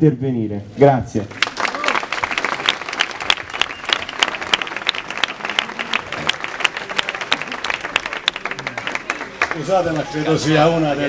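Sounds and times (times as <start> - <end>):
crowd applauding: 1.3 - 11.0.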